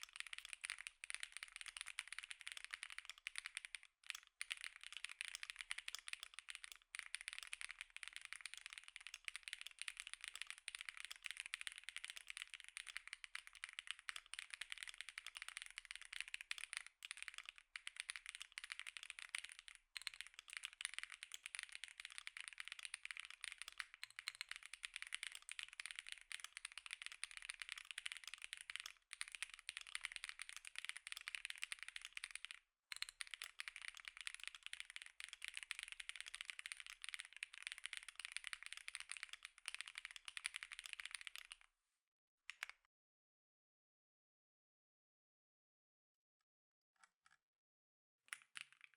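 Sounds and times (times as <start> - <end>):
mechanical keyboard typing: 0.0 - 41.6.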